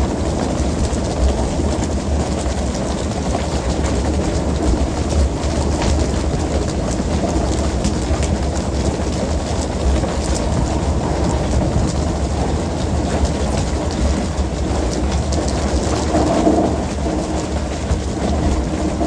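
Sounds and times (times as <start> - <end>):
boat engine drone: 0.0 - 19.0
water churning and splashing: 0.0 - 19.0.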